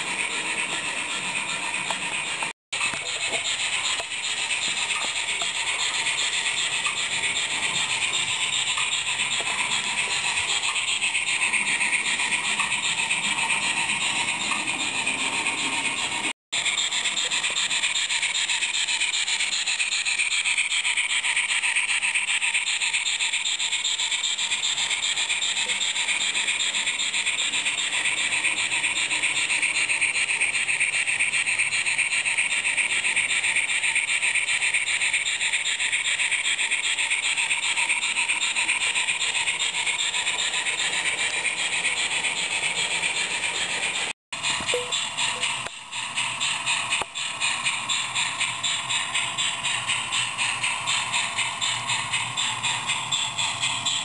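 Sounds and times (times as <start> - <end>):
model locomotive steam chuffing: 0.0 - 54.0.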